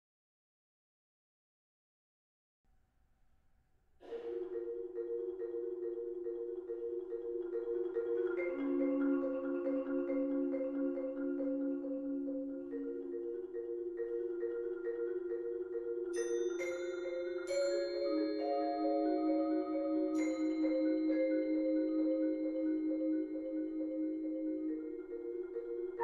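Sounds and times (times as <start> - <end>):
marimbas playing: 4.0 - 26.0.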